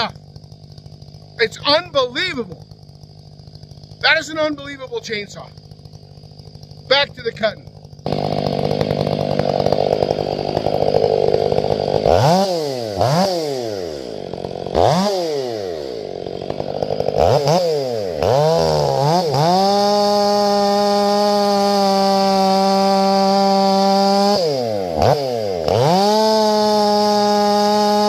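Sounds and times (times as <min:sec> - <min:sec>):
chainsaw cutting log: 0:00.0 - 0:28.0
chainsaw revving: 0:00.0 - 0:28.0.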